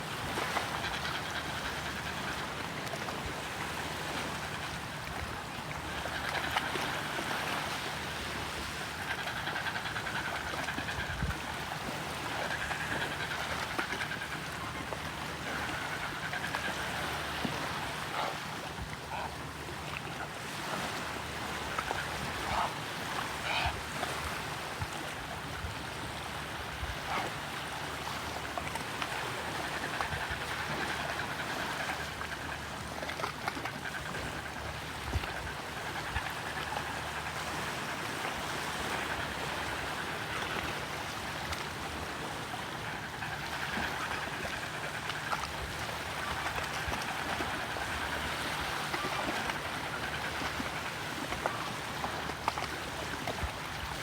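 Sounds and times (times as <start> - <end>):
sea water washing: 0.0 - 54.0.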